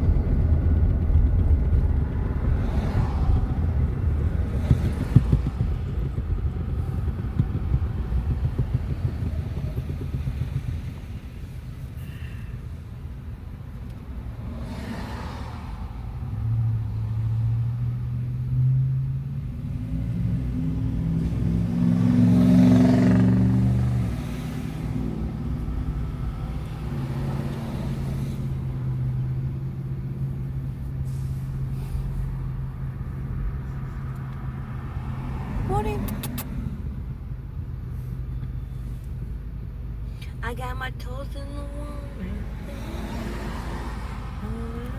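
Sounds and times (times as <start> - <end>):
car engine accelerating: 0.0 - 39.1, 41.7 - 44.9
road noise: 0.0 - 44.9.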